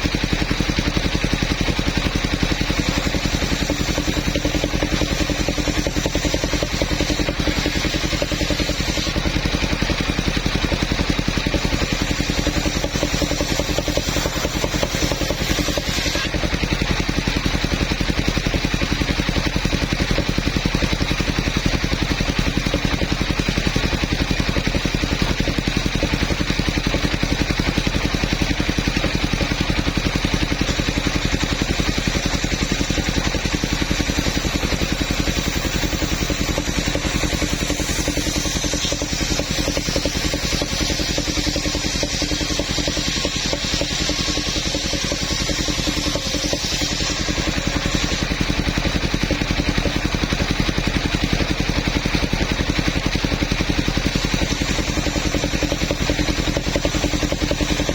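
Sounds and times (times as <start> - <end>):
saw cutting through wood: 0.0 - 57.9
sawmill engine running: 0.0 - 57.9.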